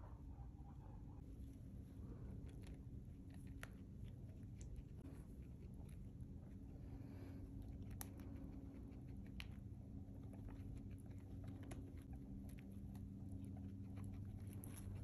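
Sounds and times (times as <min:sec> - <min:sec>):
guinea pigs crunching hay: 0:01.2 - 0:15.0.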